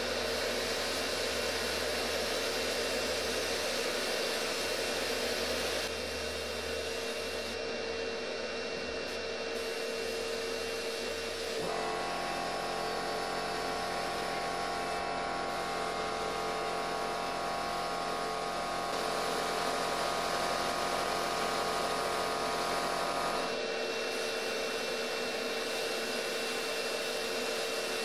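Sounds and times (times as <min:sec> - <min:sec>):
sandblasting gun hissing: 0:00.0 - 0:07.6, 0:09.0 - 0:23.4, 0:24.0 - 0:28.0
steady hum: 0:00.0 - 0:28.0.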